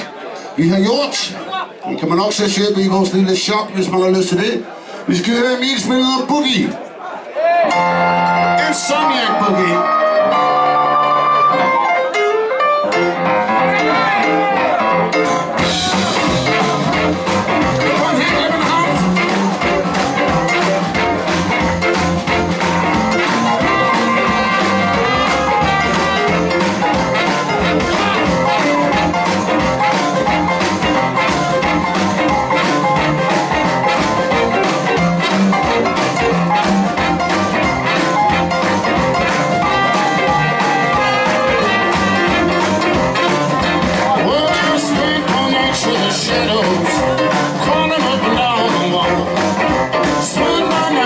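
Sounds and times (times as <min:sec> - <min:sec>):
live band playing boogie-woogie: 0:07.6 - 0:51.0
piano: 0:07.6 - 0:51.0.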